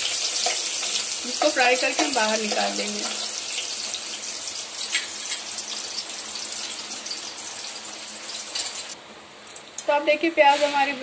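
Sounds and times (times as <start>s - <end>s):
onions sizzling in hot fat: 0.0s - 9.0s.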